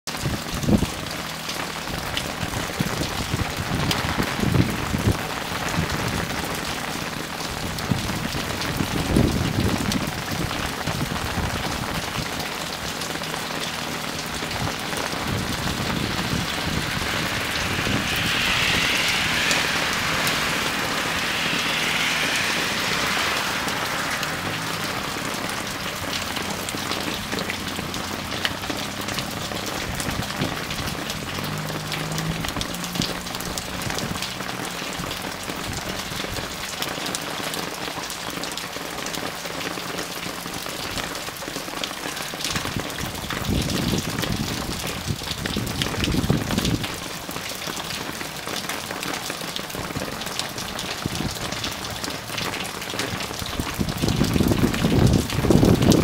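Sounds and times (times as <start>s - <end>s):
rain falling on pavement: 0.1s - 56.0s.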